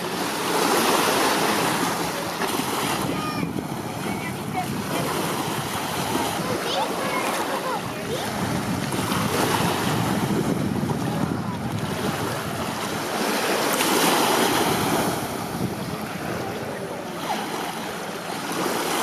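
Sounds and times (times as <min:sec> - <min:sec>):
small waves washing: 0:00.0 - 0:19.0
wind buffeting microphone: 0:01.5 - 0:17.1.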